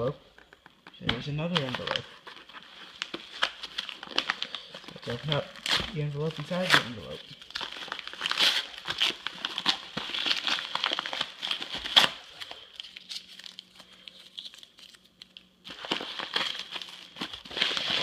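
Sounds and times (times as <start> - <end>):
packaging crinkling: 0.3 - 18.0
envelope being torn open: 1.4 - 18.0.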